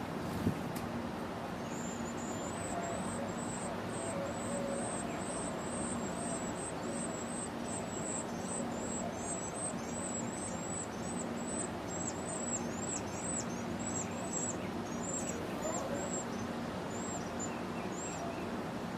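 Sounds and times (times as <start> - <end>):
background hiss and rumble: 0.0 - 18.9
small bird chirping: 1.6 - 18.3.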